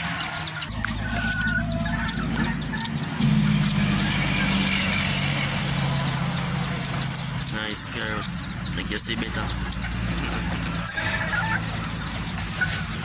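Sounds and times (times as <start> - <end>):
low motor hum: 0.0 - 13.0
small birds chirping: 0.0 - 13.0.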